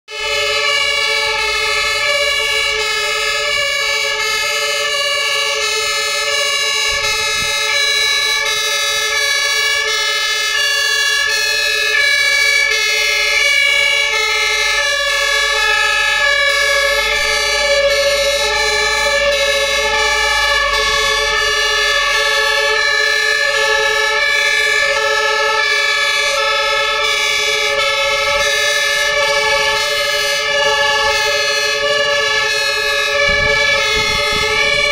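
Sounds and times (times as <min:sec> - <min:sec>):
two-tone fire engine sirens: 0:00.0 - 0:34.9.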